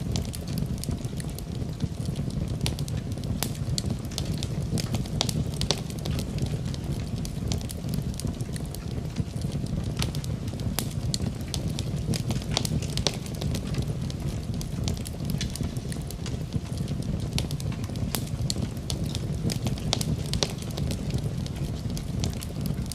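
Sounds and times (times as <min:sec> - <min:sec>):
fire crackling in fireplace: 0:00.0 - 0:22.9.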